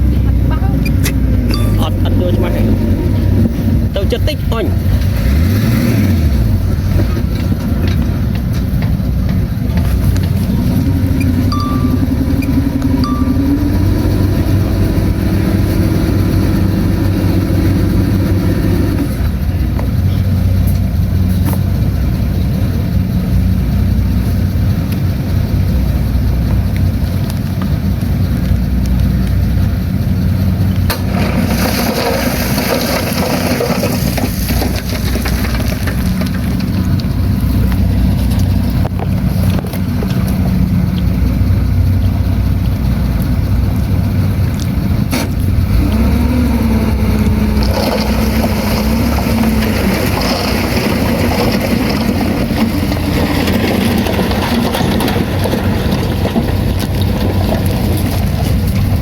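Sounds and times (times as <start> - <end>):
heavy machine diesel engine running: 0.0 - 59.0.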